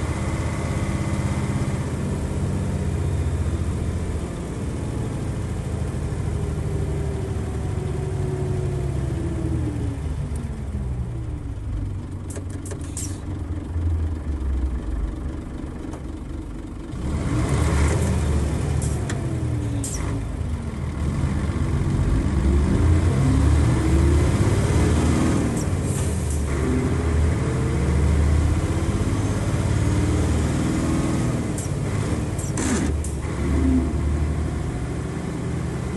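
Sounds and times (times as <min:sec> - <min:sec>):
diesel bus engine revving: 0:00.0 - 0:35.9.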